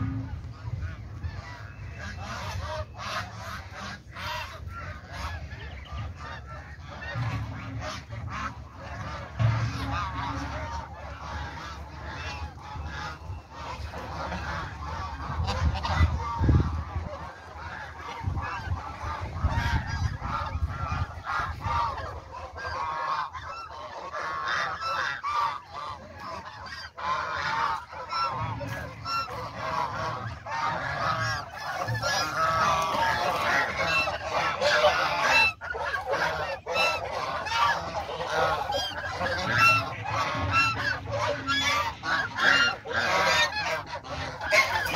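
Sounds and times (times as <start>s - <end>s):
geese honking: 0.0s - 44.9s.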